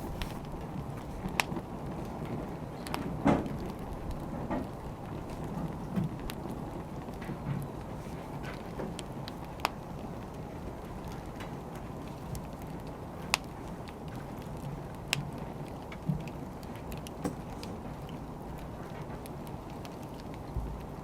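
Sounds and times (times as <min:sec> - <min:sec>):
fire pops and crackles: 0:00.0 - 0:21.0
wood fire rushing: 0:00.0 - 0:21.0.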